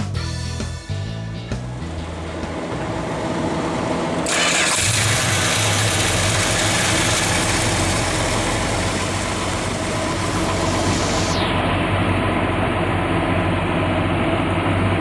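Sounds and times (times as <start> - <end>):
car engine cranking and idling: 0.6 - 15.0.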